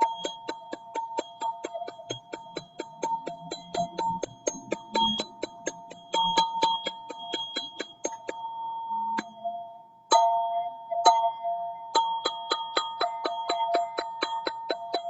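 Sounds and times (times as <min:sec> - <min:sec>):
bell-like tube strikes: 0:00.0 - 0:15.0.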